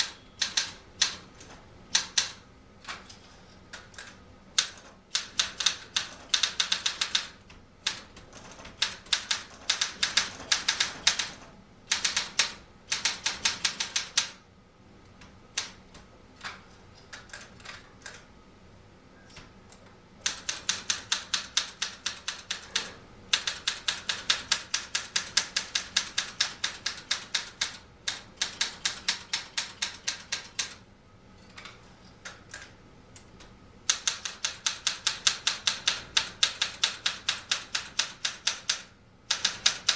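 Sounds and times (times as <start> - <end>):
typewriter keystrokes: 0.0 - 14.4, 15.5 - 18.2, 20.2 - 30.8, 33.9 - 39.9.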